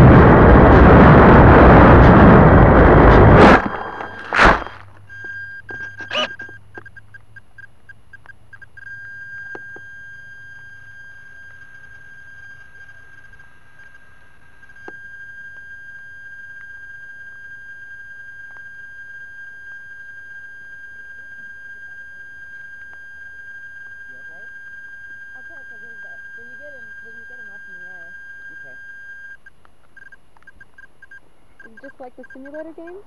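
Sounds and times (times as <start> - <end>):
high-pitched electronic tone: 0.0 - 6.6, 8.8 - 33.0
low hum: 0.0 - 33.0.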